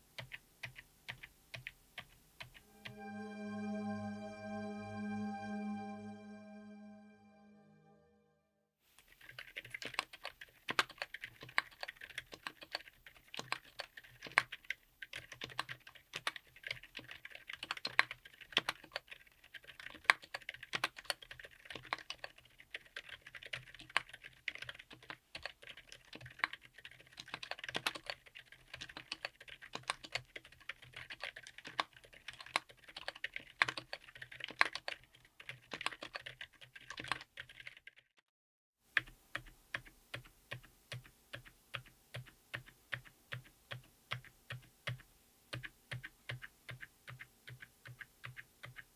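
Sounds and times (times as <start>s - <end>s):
fast typing on mechanical keyboard: 0.2s - 2.6s, 9.0s - 38.1s, 39.0s - 48.9s.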